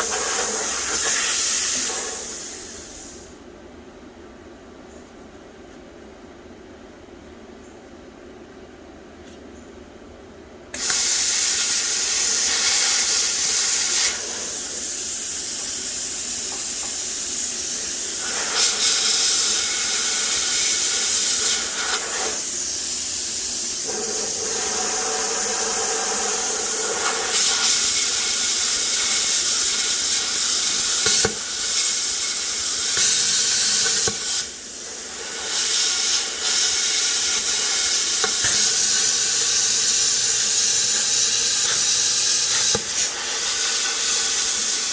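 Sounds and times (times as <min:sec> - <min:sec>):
plasma cutter hissing: 0:00.0 - 0:03.3, 0:10.8 - 0:44.9.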